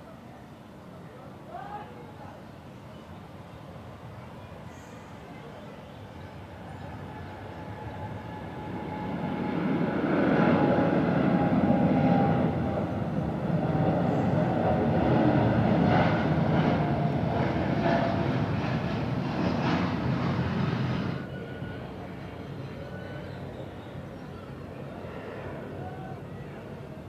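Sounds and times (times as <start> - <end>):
jet airliner engines roaring: 3.8 - 27.0.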